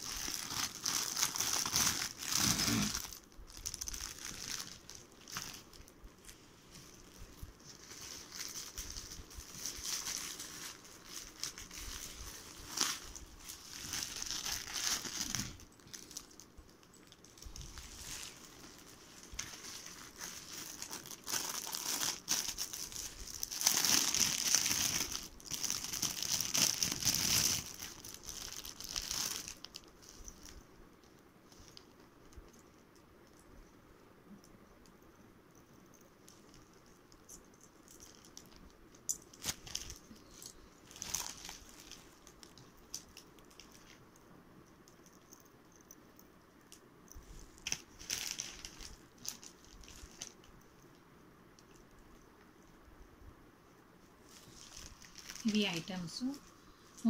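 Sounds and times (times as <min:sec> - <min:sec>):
plastic packaging crinkling: 0:00.0 - 0:32.7, 0:35.9 - 0:44.0, 0:47.4 - 0:50.6, 0:54.2 - 0:57.0.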